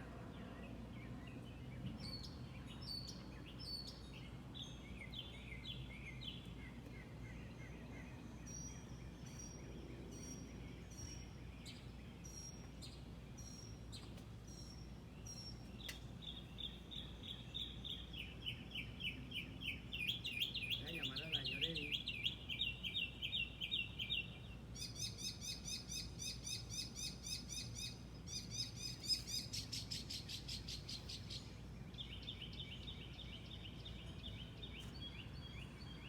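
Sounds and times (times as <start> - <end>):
low background hum: 0.0 - 36.0
birds calling: 1.8 - 36.0.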